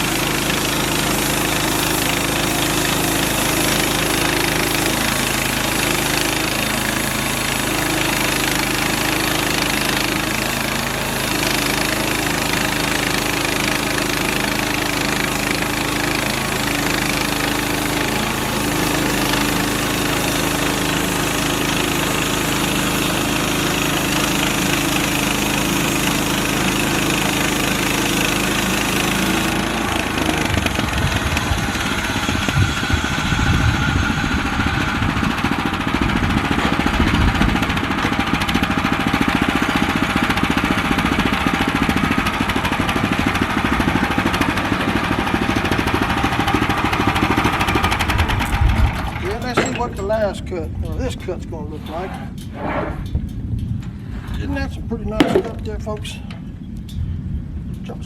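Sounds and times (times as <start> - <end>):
blade sawing through log: 0.0 - 50.3, 51.0 - 53.0
bandsaw mill engine running: 0.0 - 56.5.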